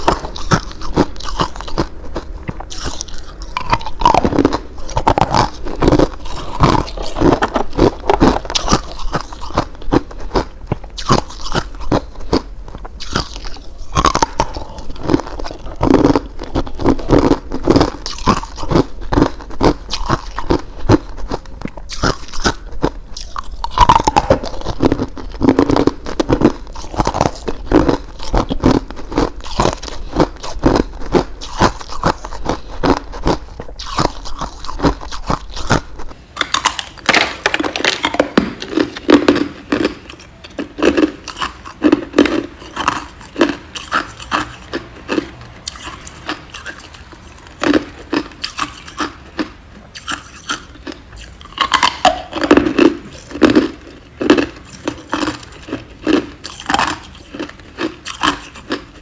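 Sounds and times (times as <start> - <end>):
person chewing ice: 0.0 - 59.0.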